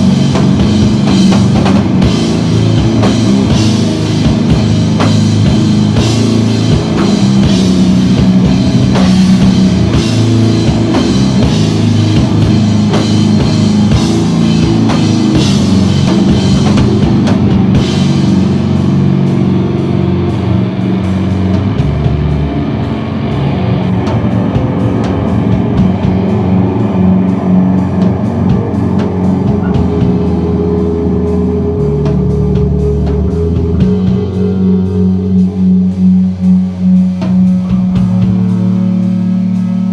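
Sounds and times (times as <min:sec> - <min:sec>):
cymbal wash: 0:00.0 - 0:39.9
live rock band: 0:00.0 - 0:39.9.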